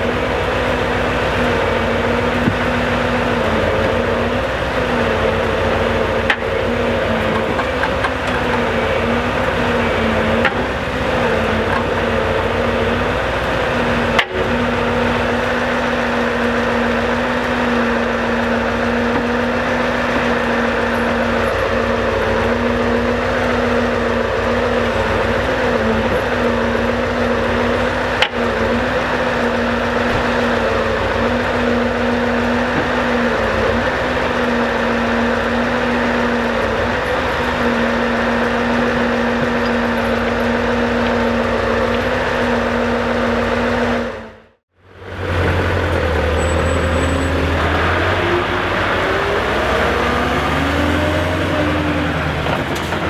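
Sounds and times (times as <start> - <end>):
diesel truck engine droning: 0.0 - 53.0.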